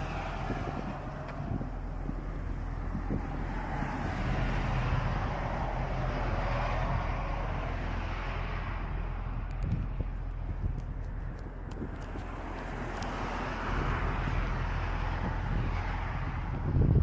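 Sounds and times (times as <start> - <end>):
engines humming: 0.0 - 17.0.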